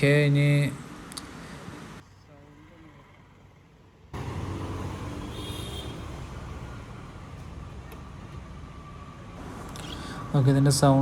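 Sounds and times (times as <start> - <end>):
engine and road traffic rumble: 0.0 - 11.0.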